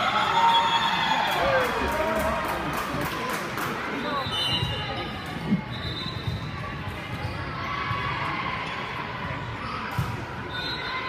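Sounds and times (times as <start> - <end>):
spectators chattering: 0.0 - 11.0.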